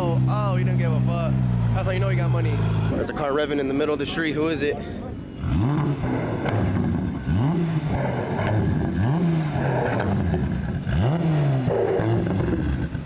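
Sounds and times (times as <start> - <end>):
car engine revving: 0.0 - 3.1, 5.3 - 13.0.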